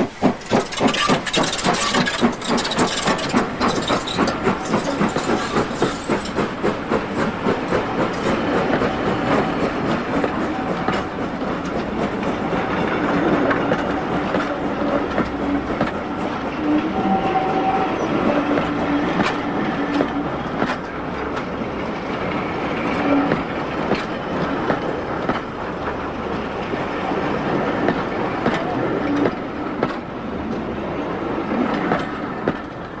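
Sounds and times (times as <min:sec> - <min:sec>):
train wheels clicking on rail joints: 0:00.0 - 0:33.0.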